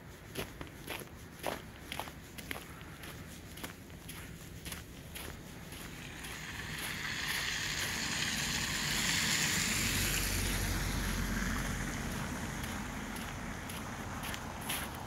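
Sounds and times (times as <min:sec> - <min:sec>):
low vehicle rumble: 0:00.0 - 0:15.0
tyre hiss on slushy road: 0:00.2 - 0:15.0.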